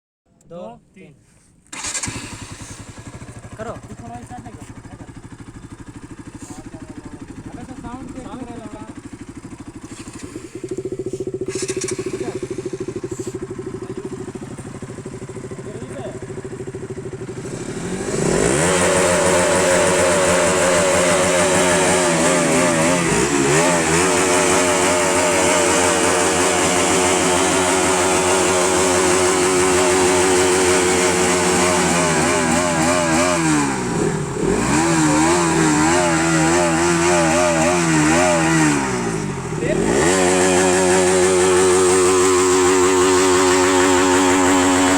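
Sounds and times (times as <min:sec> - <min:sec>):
motorcycle engine idling and revving: 0:01.6 - 0:44.9.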